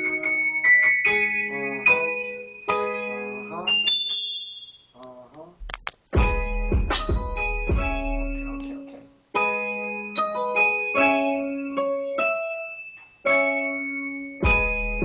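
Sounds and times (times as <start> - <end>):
piano-like chords and notes: 0.0 - 4.7, 5.7 - 15.0.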